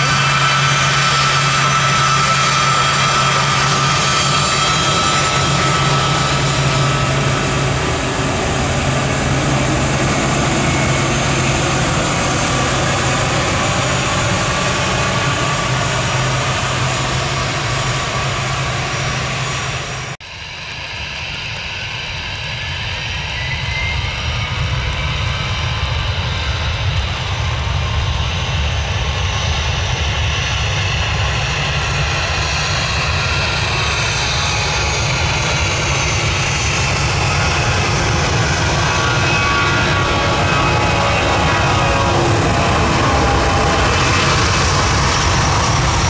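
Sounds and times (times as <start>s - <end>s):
jet airliner engines running: 0.0s - 46.0s
rising engine whine: 0.0s - 46.0s.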